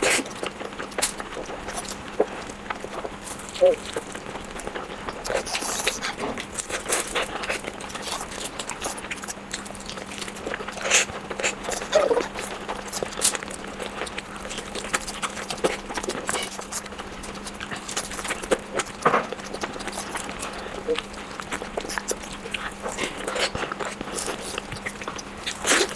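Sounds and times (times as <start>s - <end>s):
faint steady hum: 0.0s - 25.9s
person chewing food: 0.0s - 25.9s.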